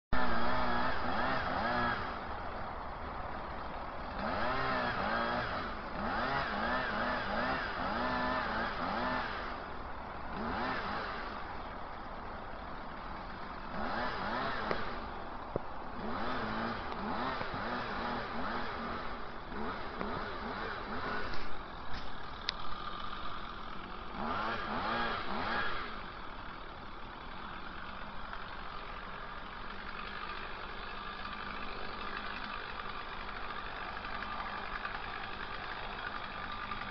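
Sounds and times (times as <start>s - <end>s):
chainsaw revving: 0.2s - 2.4s, 3.2s - 36.9s.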